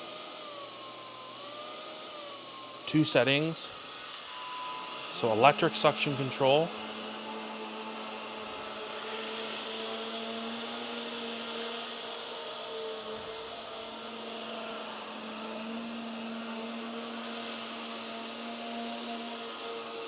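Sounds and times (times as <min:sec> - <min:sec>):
upright vacuum running: 0:00.0 - 0:20.0.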